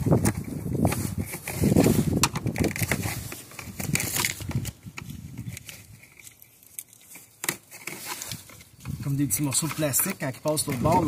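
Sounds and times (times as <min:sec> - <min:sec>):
rubbing and crackling handling noise: 0:00.0 - 0:11.0.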